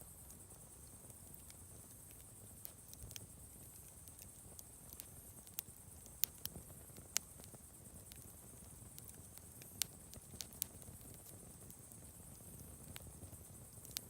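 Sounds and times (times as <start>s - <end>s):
campfire crackling and popping: 0.3s - 14.0s.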